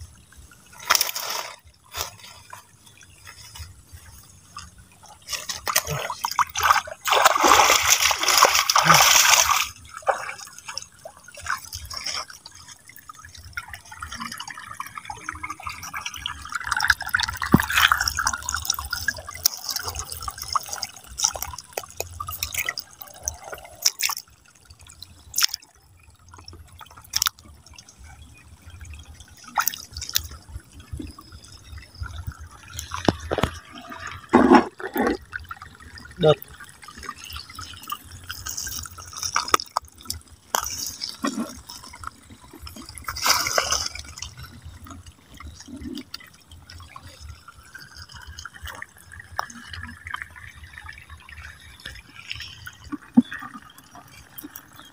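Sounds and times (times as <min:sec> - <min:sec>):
water dripping: 0:00.0 - 0:54.9
water splashing and trickling: 0:00.0 - 0:54.9
rush of water: 0:00.7 - 0:24.3, 0:29.3 - 0:54.9.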